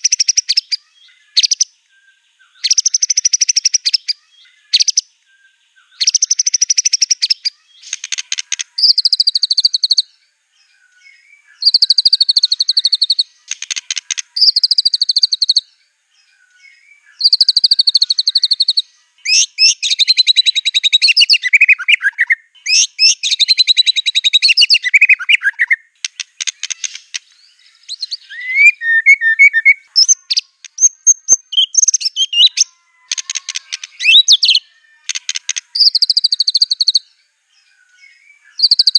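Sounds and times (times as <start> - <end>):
bird singing trilled phrases: 0.0 - 38.9.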